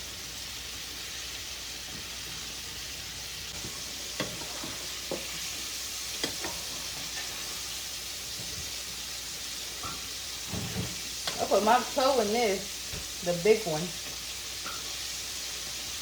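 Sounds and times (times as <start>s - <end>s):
shrimp sizzling in oil: 0.0s - 16.0s.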